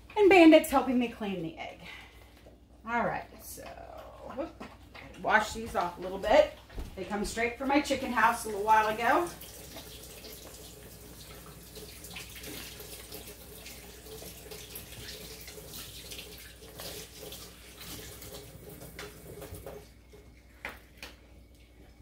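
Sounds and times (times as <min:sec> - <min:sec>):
eggs rinsed by hand: 0:00.0 - 0:22.0
kitchen tap running: 0:03.4 - 0:22.0.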